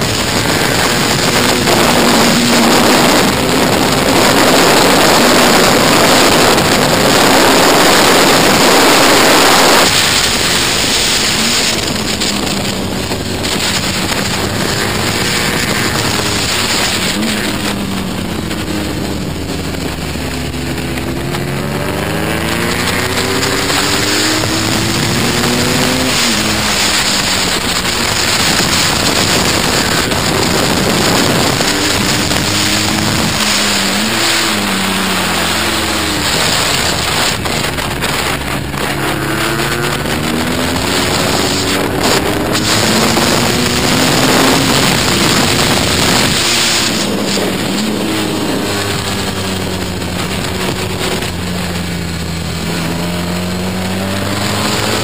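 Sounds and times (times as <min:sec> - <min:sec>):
motorcycle engine racing: 0:00.0 - 0:55.0
wind noise on microphone: 0:00.0 - 0:55.0.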